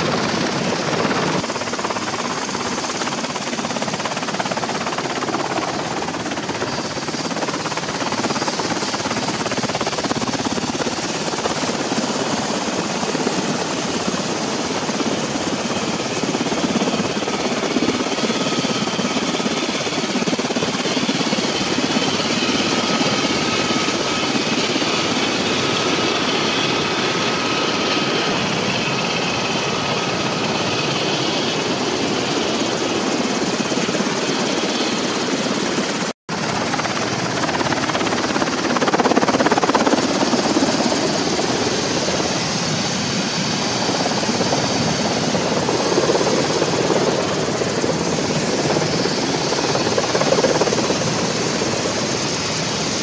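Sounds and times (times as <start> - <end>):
helicopter engine and rotor: 0.0 - 53.0.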